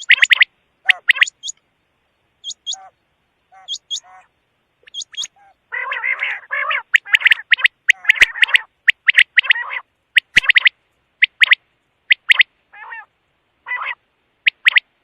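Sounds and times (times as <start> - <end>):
harsh rasping calls: 0.0 - 1.6, 2.4 - 14.9
quail calling: 0.0 - 1.6, 2.4 - 14.9.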